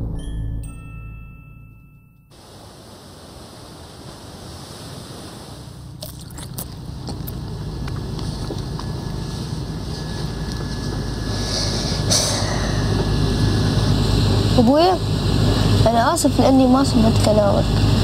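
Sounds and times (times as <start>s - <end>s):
motorboat engine drone: 2.3s - 18.0s
wind: 2.3s - 18.0s.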